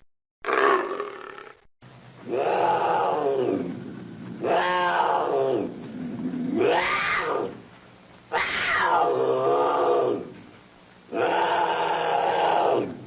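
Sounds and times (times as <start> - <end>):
leopard roaring: 0.4 - 1.6, 2.2 - 7.6, 8.3 - 10.4, 11.1 - 13.0.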